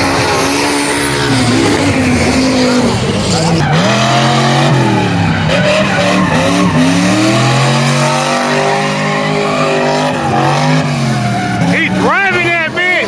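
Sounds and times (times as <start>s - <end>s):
car engine revving hard: 0.0s - 13.0s
tyres squealing on pavement: 0.0s - 13.0s.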